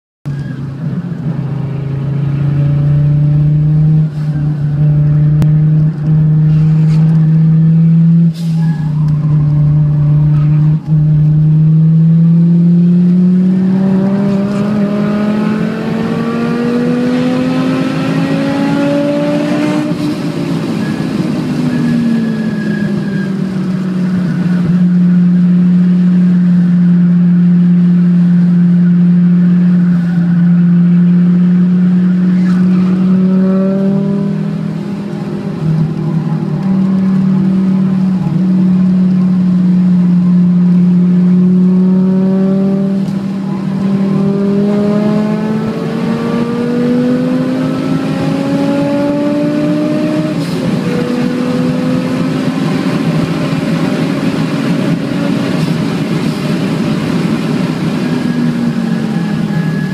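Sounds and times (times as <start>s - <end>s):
car engine revving: 0.3s - 59.9s.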